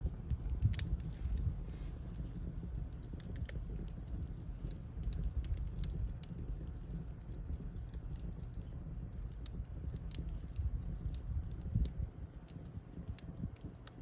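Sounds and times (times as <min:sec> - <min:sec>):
firewood crackling: 0:00.0 - 0:14.0
steady low rumble: 0:00.0 - 0:14.0.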